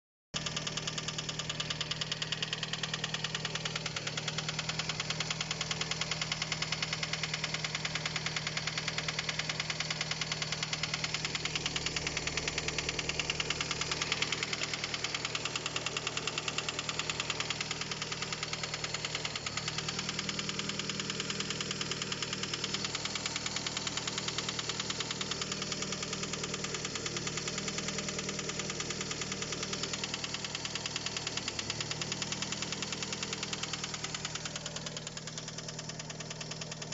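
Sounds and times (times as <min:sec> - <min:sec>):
engine idling with rapid knock: 0:00.4 - 0:36.9.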